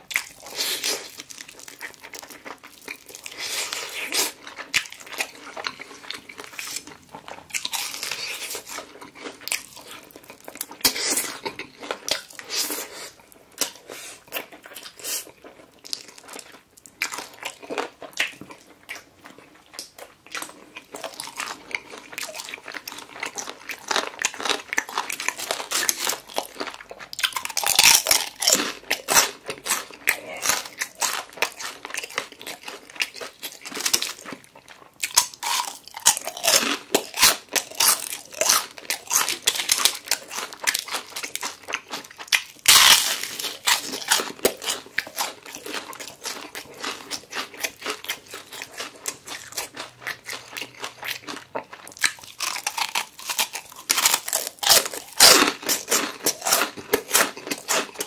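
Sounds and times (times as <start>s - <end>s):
person crunching fried chicken: 0.0s - 58.0s.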